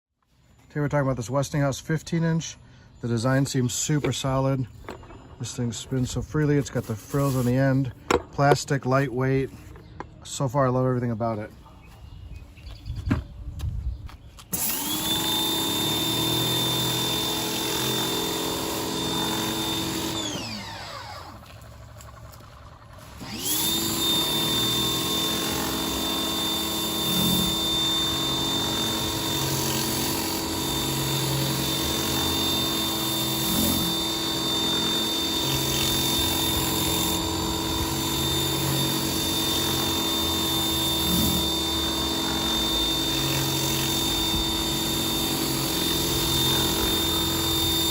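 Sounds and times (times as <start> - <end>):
pressure washer whining: 3.2 - 8.8, 14.4 - 47.9.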